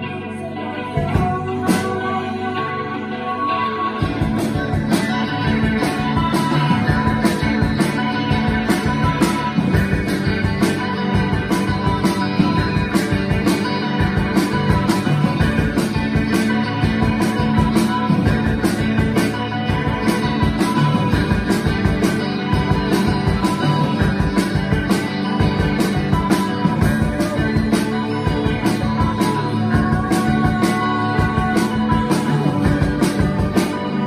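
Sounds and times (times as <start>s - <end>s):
rock band playing live: 0.0s - 34.0s
drum kit beat: 4.0s - 34.0s.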